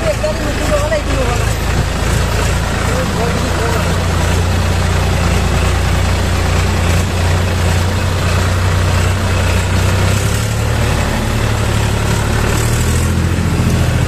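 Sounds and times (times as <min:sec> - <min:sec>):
tyres rushing over wet stones: 0:00.0 - 0:12.8
tractor diesel engine running: 0:00.0 - 0:14.0.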